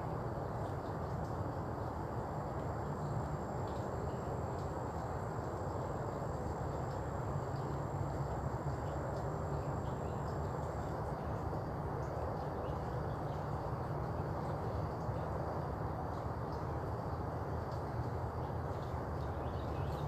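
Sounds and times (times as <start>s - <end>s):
faint high insect-like tone: 0.0s - 20.0s
low outdoor rumble: 0.0s - 20.0s.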